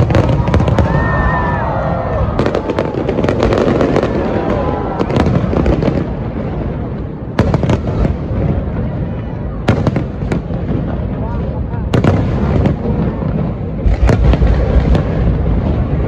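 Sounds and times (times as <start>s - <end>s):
rumble of explosions: 0.0s - 16.0s.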